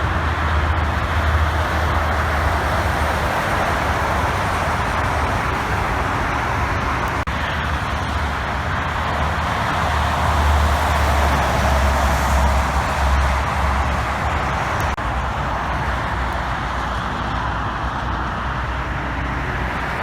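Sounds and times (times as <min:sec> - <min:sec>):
heavy vehicle engine rumble: 0:00.0 - 0:20.0
passing traffic: 0:00.0 - 0:20.0.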